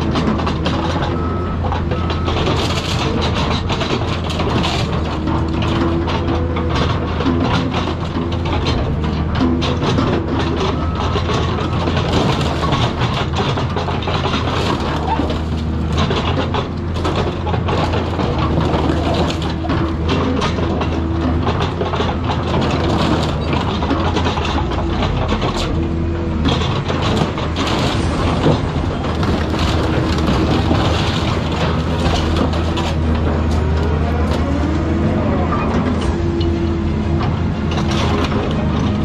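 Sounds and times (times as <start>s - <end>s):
excavator diesel engine running: 0.0s - 39.0s
metal crunching and tearing: 1.8s - 39.0s
metal clanks and scrapes: 1.9s - 39.0s.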